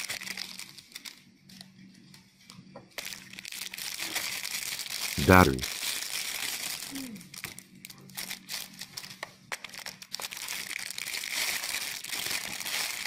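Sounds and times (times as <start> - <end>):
plastic bags crinkling: 0.0 - 1.2, 3.0 - 13.0.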